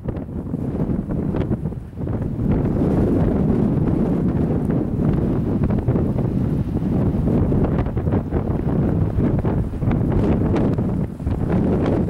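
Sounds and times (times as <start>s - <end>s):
blizzard wind buffeting microphone: 0.0s - 12.0s.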